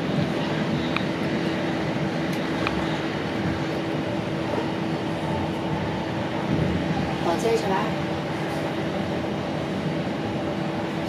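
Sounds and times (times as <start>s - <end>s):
constant low hum: 0.0s - 11.0s
train wheels rolling on rails: 0.0s - 11.0s.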